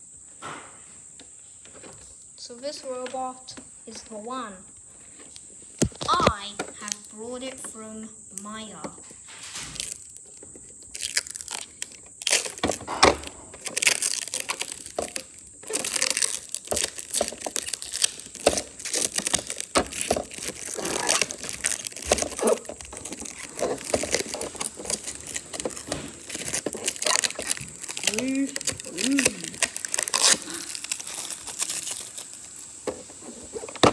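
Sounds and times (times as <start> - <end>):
plastic packaging crinkling: 4.9 - 33.9.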